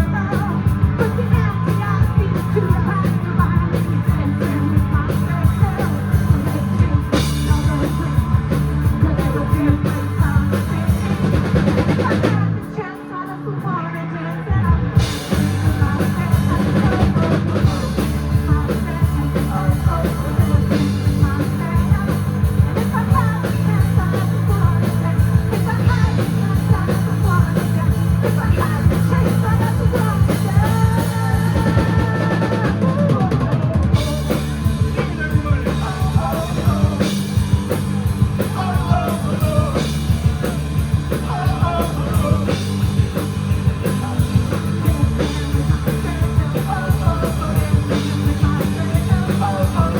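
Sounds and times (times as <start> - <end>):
drum kit beat: 0.0 - 12.8, 14.9 - 49.9
bass line: 0.0 - 12.9, 13.5 - 49.9
electric guitars: 0.0 - 49.9.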